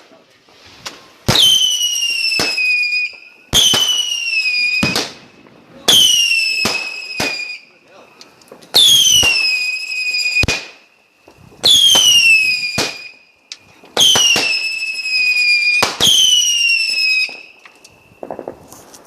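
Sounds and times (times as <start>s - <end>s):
firework bangs: 0.0s - 19.0s
whistling fireworks: 0.0s - 19.0s.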